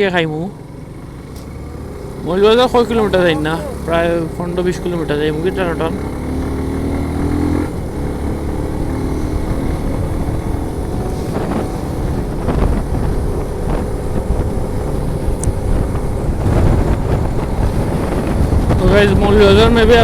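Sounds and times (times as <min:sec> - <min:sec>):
motorcycle engine running: 0:00.0 - 0:20.0
wind buffeting microphone: 0:00.9 - 0:20.0.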